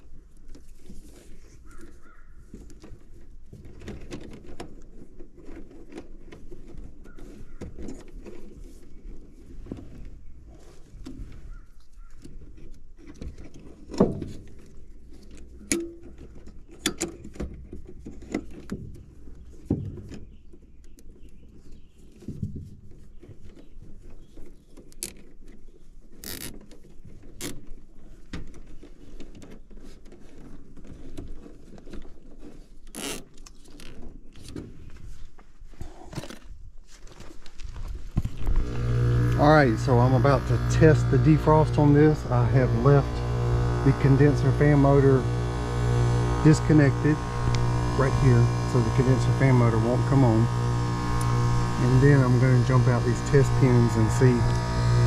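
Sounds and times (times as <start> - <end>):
rustling of wires: 0.0 - 55.0.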